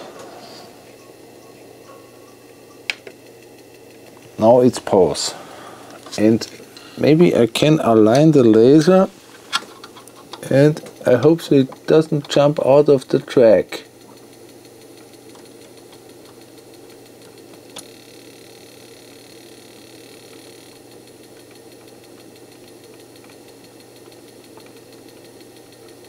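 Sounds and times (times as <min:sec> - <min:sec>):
electronics humming and hissing: 0:00.0 - 0:26.0.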